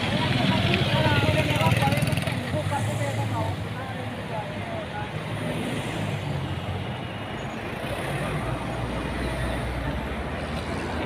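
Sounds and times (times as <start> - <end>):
cars passing on tarmac road: 0.0 - 11.0.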